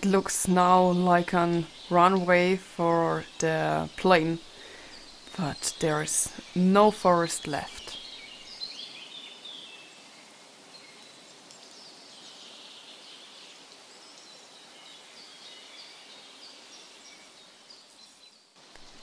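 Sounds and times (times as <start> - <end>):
birds chirping faintly: 0.0 - 19.0
quiet outdoor hiss: 0.0 - 19.0.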